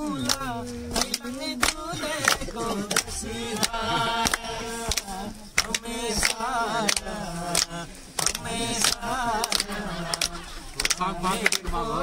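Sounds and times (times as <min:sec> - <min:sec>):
folk singing: 0:00.0 - 0:12.0
hand claps: 0:00.2 - 0:11.7.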